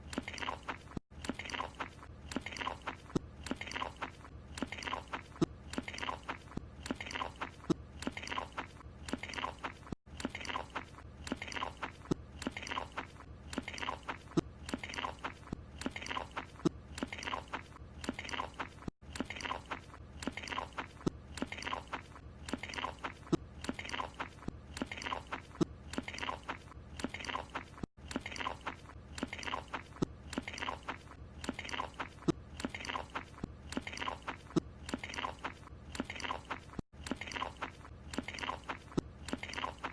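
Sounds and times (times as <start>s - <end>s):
cartoon character chewing: 0.0s - 39.9s.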